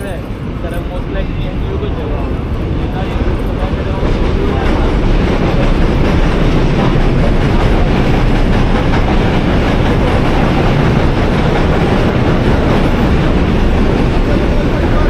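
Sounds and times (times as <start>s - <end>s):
train rumbling past: 0.0s - 15.0s
wheels clattering on rails: 0.0s - 15.0s.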